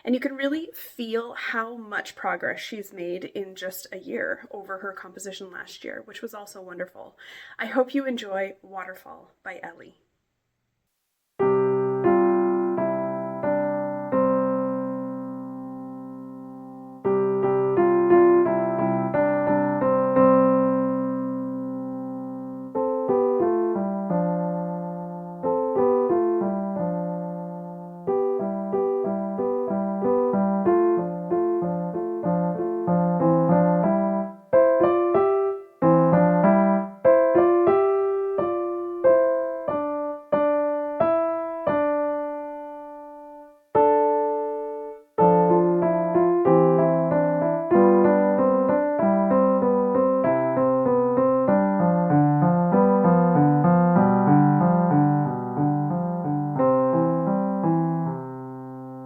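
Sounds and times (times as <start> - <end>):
slow solo piano piece: 11.4 - 59.0.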